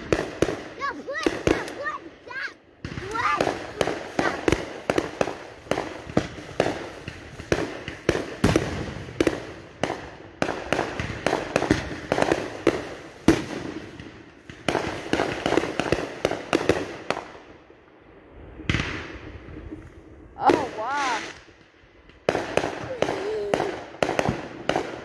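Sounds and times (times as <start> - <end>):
fireworks bangs and pops: 0.0 - 17.6, 18.6 - 25.0.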